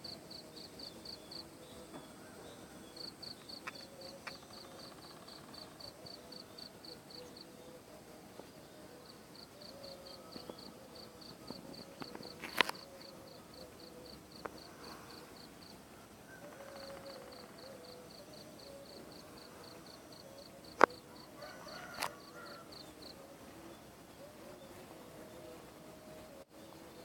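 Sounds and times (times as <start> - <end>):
insect chirping: 0.0 - 7.5, 9.0 - 23.2.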